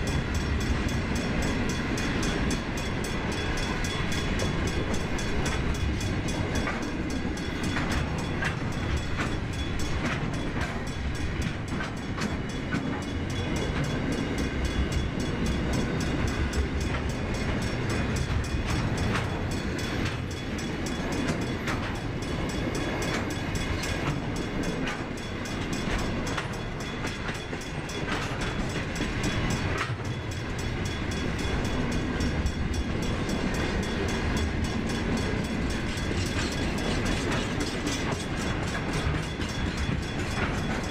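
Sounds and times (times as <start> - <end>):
train wheels rumbling on rail: 0.0 - 40.9
wheels clacking over rail joints: 0.0 - 40.9.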